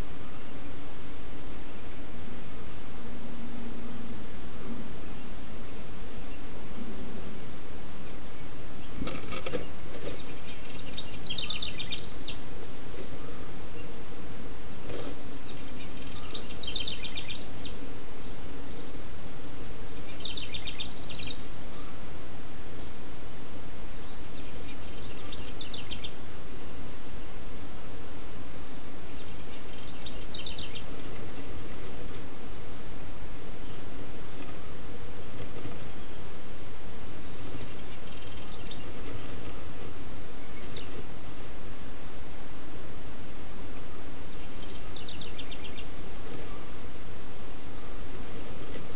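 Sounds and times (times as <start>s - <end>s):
steady hiss: 0.0s - 48.9s
wren singing: 0.0s - 48.9s.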